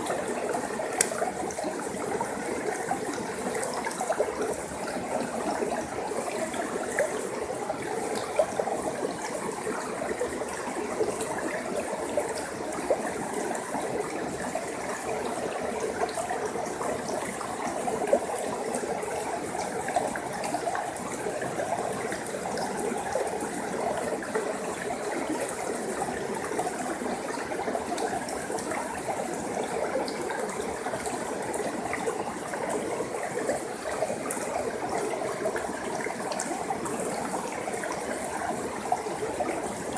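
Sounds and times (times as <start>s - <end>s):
stream flowing over rocks: 0.0s - 39.9s
water splashes and drips: 0.0s - 39.9s.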